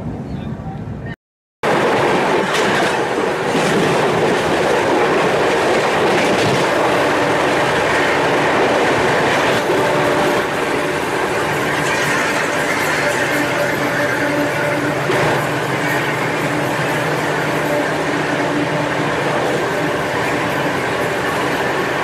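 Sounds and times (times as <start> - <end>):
train wheel and rail noise: 0.0 - 22.0.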